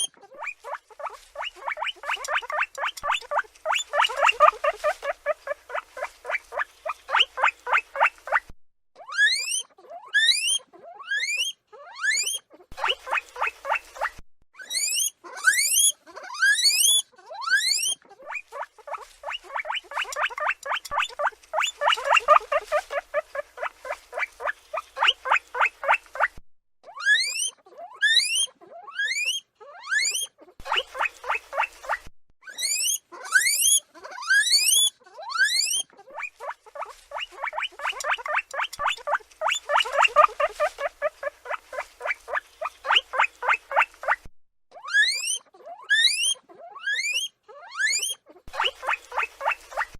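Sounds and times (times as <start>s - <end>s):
guinea pig squeaking: 0.0s - 49.9s
guinea pig whistling wheeks: 0.0s - 49.9s.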